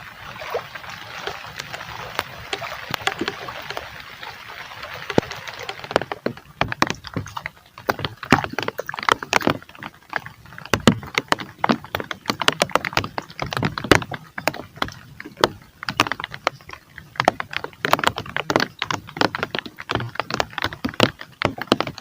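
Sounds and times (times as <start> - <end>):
sharp taps and clicks: 2.0 - 3.9, 5.0 - 22.0.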